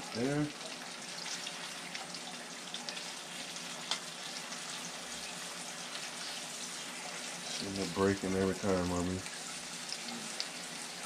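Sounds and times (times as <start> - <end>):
fish fillets sizzling in a pan: 0.0 - 11.0.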